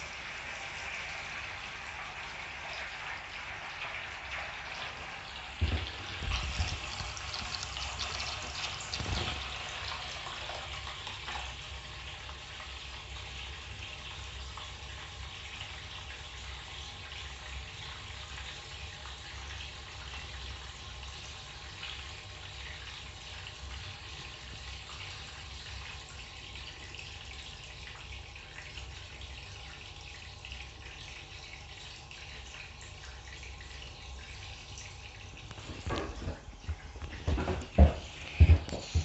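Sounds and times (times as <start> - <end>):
water running into bathtub: 0.0 - 39.0.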